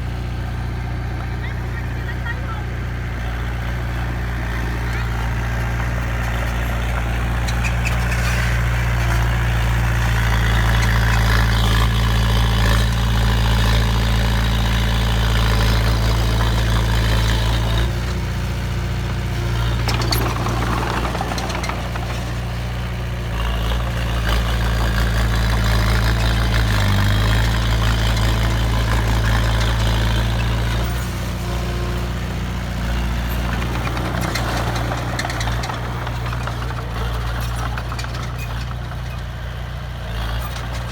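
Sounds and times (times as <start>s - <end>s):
heavy engine running with low hum: 0.0s - 40.9s.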